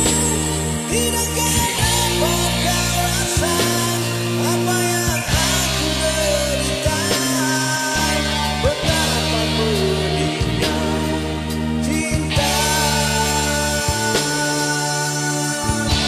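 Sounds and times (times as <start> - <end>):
rock ballad backing track: 0.0 - 16.0.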